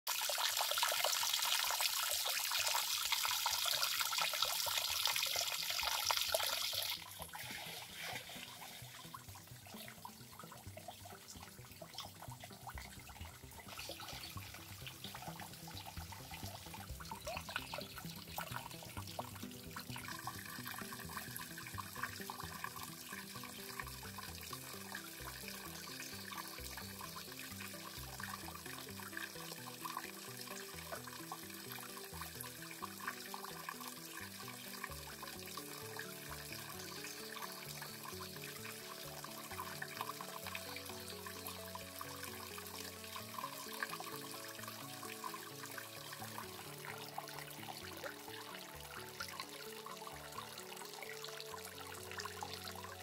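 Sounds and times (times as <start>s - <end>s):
faint water trickle: 0.1s - 53.0s
soft background music: 0.1s - 53.0s.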